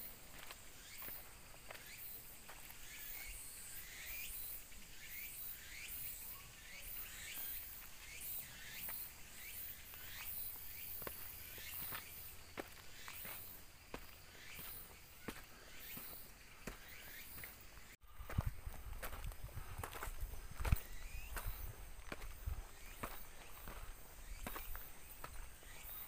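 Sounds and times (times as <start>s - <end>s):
insects buzzing in pulses: 0.0s - 26.0s.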